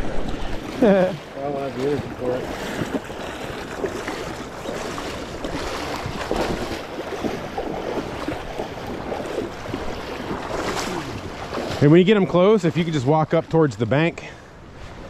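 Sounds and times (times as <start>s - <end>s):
river current rushing: 0.0s - 14.6s.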